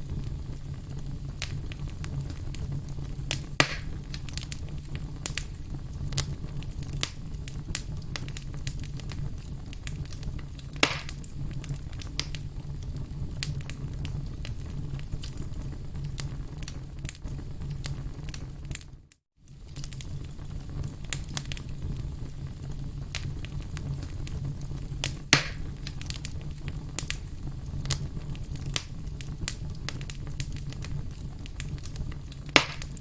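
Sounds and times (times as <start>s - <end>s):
firewood crackling: 0.0s - 33.0s
low rumble of flame: 0.0s - 33.0s.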